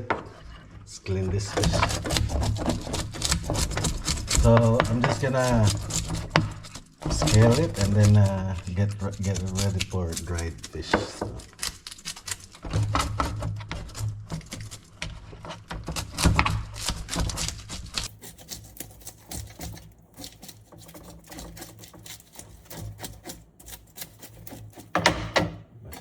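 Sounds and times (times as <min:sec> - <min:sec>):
blade scraping fish scales: 0:01.5 - 0:26.0.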